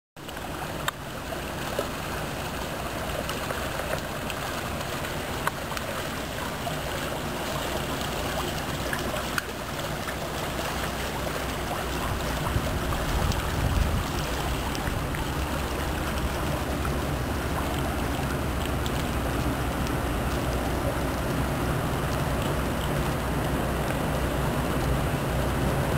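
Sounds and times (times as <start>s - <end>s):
low engine drone: 0.2s - 25.9s
water washing along boat hull: 0.2s - 25.9s.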